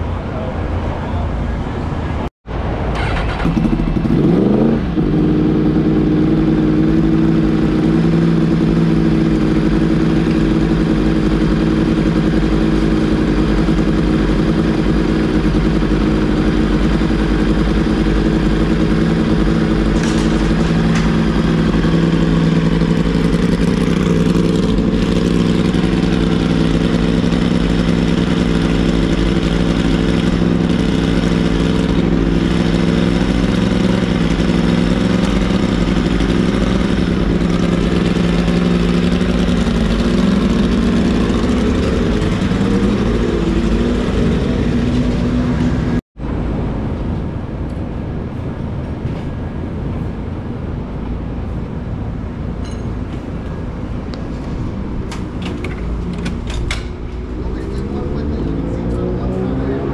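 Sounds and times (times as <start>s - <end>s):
motorcycle engine revving and idling: 2.9s - 46.0s, 52.6s - 59.9s.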